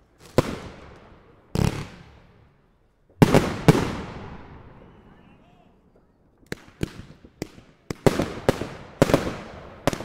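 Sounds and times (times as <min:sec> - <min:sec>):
fireworks bangs with echo: 0:00.2 - 0:05.2, 0:06.4 - 0:10.0.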